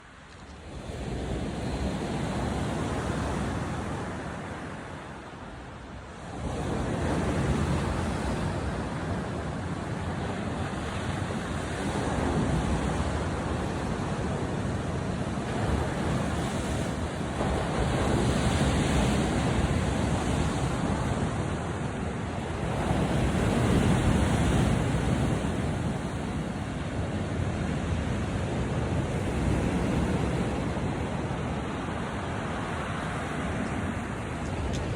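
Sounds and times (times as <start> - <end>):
waves breaking on shore: 0.0 - 34.9.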